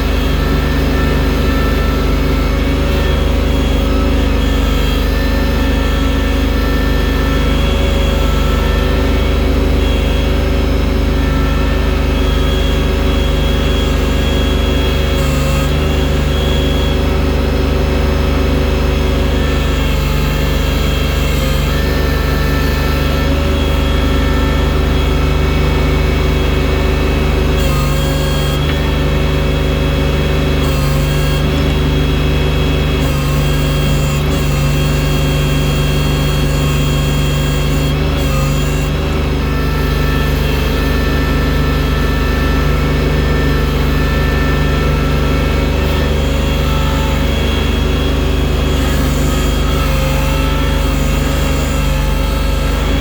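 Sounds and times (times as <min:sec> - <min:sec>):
machine engine running: 0:00.0 - 0:53.0.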